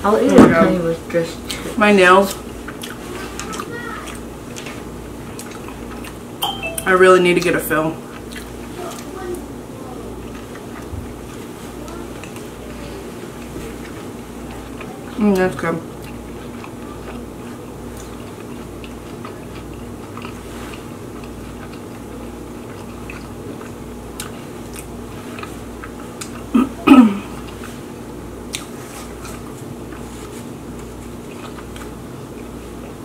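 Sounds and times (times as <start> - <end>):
chewing and wet mouth sounds: 1.4 - 33.0.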